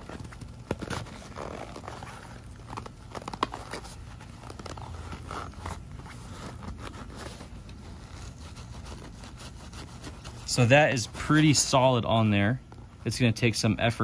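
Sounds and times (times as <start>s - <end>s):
plastic scraping against fabric: 0.0s - 11.8s
fabric rustling: 0.0s - 13.2s.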